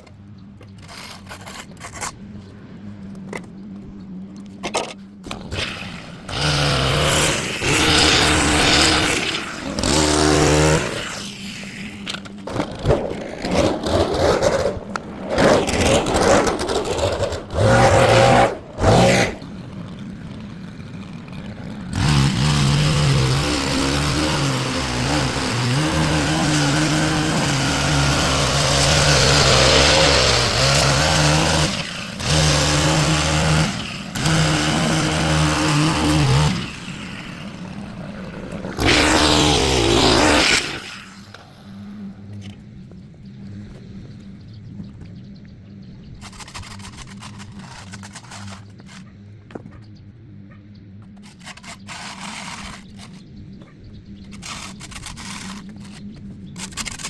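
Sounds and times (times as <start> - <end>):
small gasoline engine revving: 4.6 - 44.6, 45.8 - 49.6, 51.1 - 57.0.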